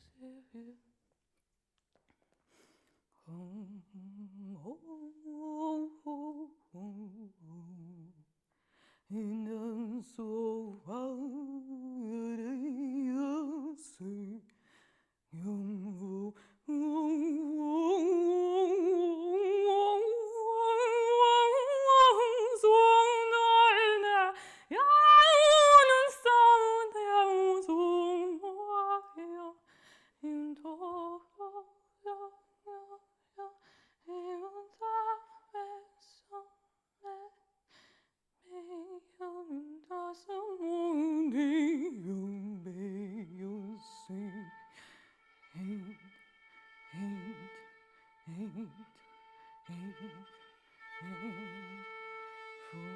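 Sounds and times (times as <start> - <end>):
woman singing wordlessly: 0.0 - 0.9, 3.2 - 8.2, 9.1 - 14.5, 15.3 - 29.6, 30.2 - 37.4, 38.4 - 46.2, 46.9 - 51.9, 52.6 - 52.9.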